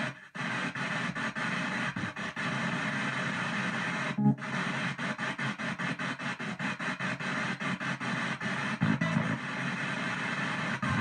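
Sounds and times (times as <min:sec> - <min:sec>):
choppy radio static: 0:00.0 - 0:11.0
snatch of radio broadcast: 0:00.0 - 0:11.0.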